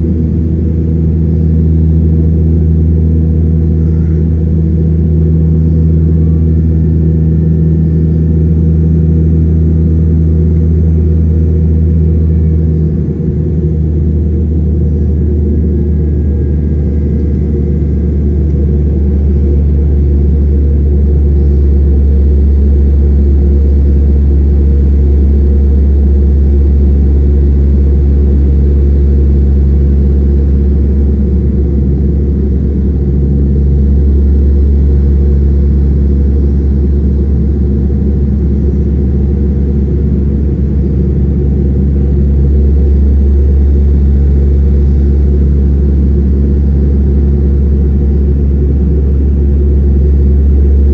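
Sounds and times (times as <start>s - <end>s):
turboprop engines droning: 0.0s - 50.9s.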